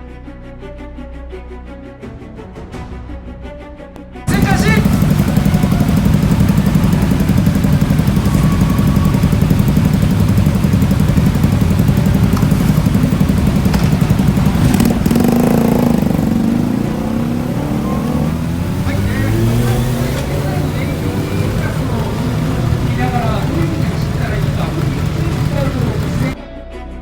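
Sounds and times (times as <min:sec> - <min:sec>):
motorcycle engine running: 0:04.3 - 0:26.4.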